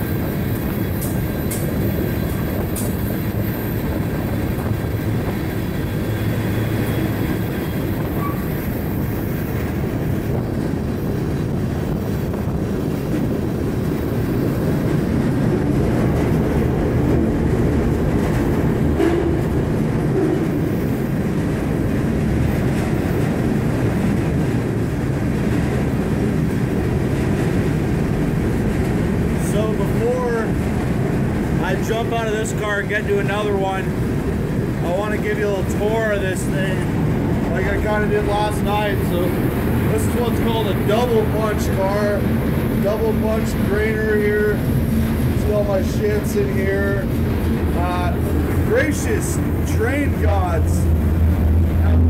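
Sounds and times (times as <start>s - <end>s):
train rumbling and rattling: 0.0s - 52.0s.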